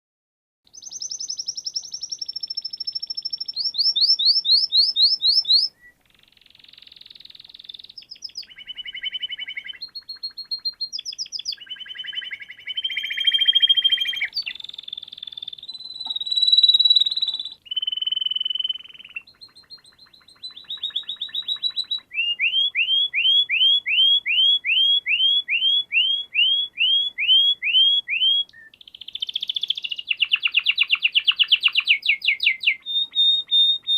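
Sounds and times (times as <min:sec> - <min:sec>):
songbird singing: 0:00.7 - 0:33.9.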